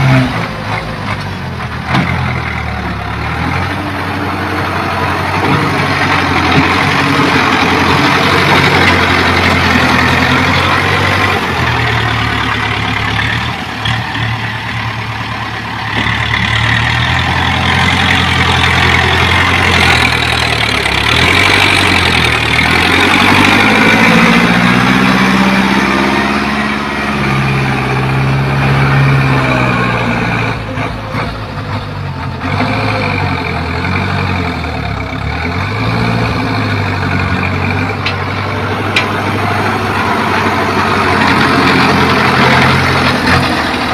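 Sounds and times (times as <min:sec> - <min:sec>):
tractor diesel engine under load: 0:00.0 - 0:43.9.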